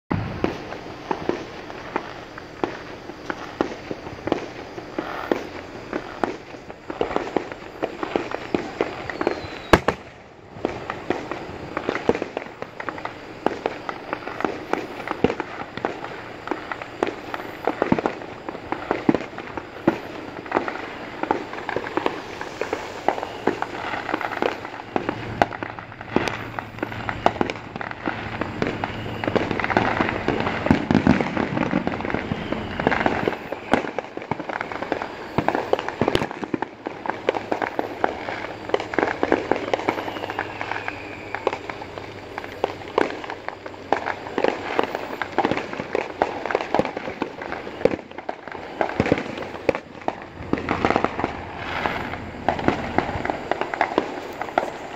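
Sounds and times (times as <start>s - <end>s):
fireworks popping and cracking: 0.1s - 54.9s.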